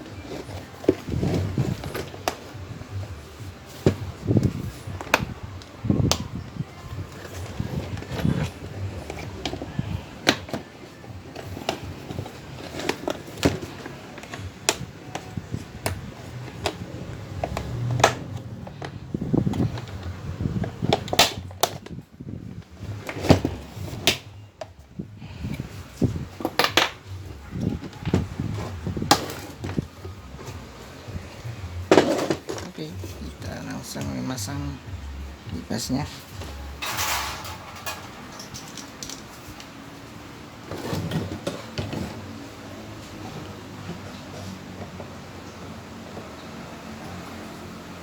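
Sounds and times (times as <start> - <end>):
fan parts clicking and knocking: 0.0 - 34.7, 35.4 - 47.3.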